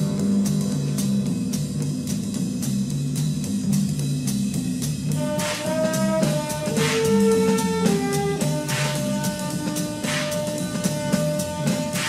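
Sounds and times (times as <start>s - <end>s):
drum strikes: 0.0s - 12.0s
low bass figure: 0.0s - 12.0s.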